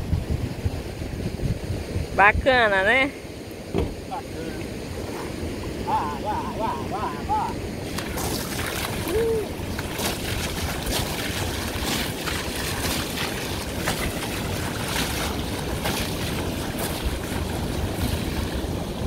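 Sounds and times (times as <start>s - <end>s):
wind buffeting microphone: 0.0s - 19.0s
water rushing and splashing: 0.1s - 19.0s.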